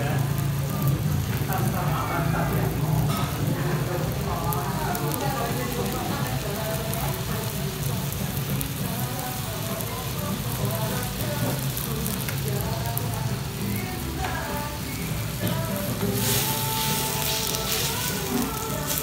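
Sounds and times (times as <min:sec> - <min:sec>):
faint voices: 0:00.0 - 0:19.0
meat sizzling on a grill: 0:00.0 - 0:19.0.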